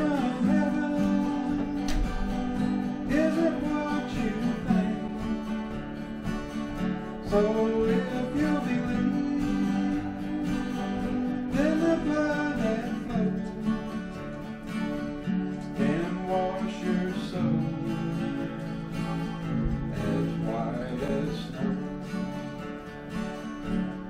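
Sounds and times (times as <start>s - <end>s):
acoustic guitars playing country tune: 0.0s - 24.0s.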